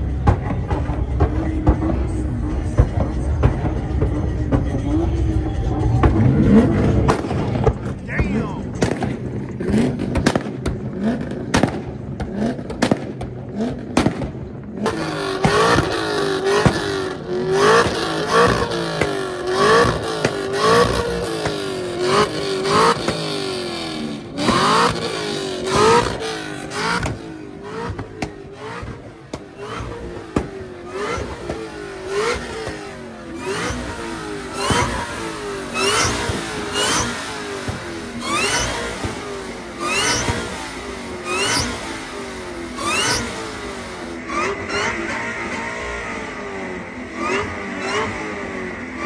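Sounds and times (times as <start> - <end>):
exhaust pops: 0.0 - 44.2
car engine revving: 0.0 - 49.0.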